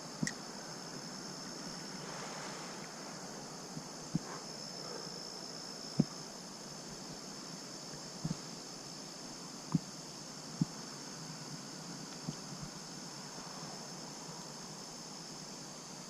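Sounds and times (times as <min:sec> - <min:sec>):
insects trilling: 0:00.0 - 0:16.0
outdoor hiss: 0:00.0 - 0:16.0.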